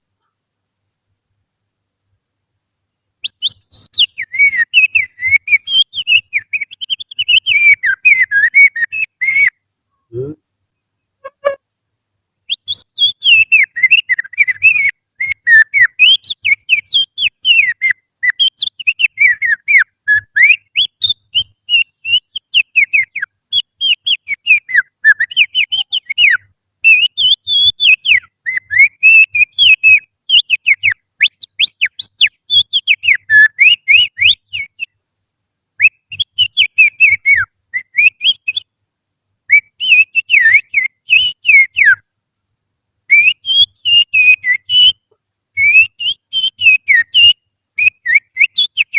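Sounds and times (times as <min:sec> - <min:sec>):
finger whistling birdsong: 0:03.2 - 0:09.6, 0:12.5 - 0:35.0, 0:35.8 - 0:38.7, 0:39.5 - 0:42.0, 0:43.1 - 0:48.9.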